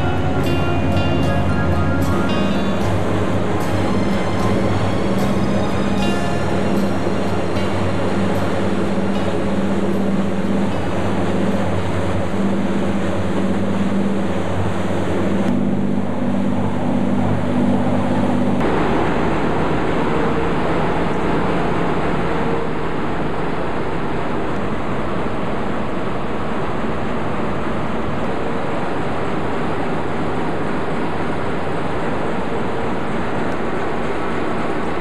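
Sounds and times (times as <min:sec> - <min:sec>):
water noise: 0:00.0 - 0:28.3
boat wake rushing: 0:00.0 - 0:35.0
diesel engine droning: 0:00.0 - 0:35.0.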